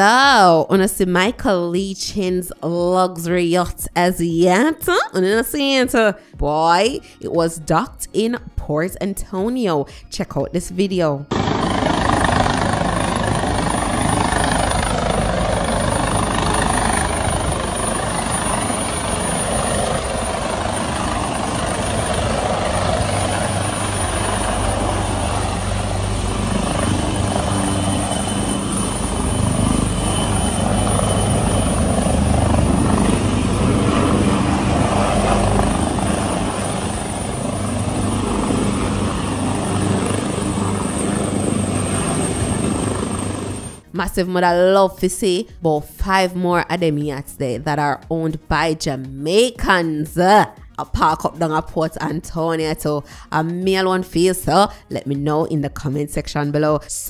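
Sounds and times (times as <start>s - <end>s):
helicopter rotor and turbine: 10.8s - 56.6s.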